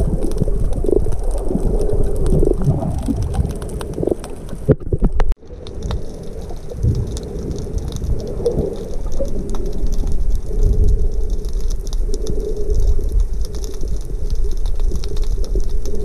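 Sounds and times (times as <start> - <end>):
underwater clicks and pops: 0.0 - 16.0
underwater rumble of moving water: 0.0 - 16.0.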